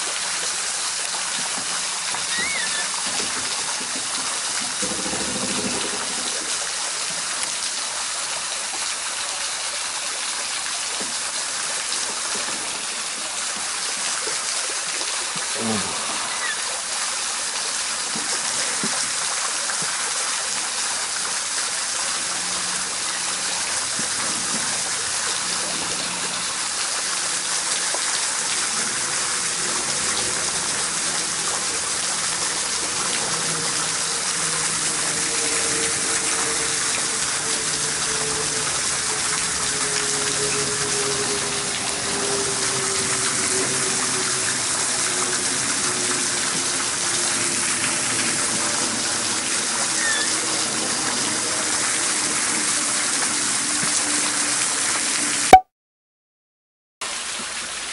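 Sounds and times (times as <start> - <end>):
small waterfall pouring into pool: 0.0 - 55.6, 57.0 - 57.9.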